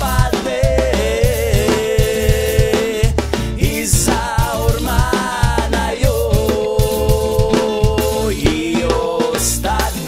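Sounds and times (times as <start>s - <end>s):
song with steady drum beat: 0.0s - 10.0s.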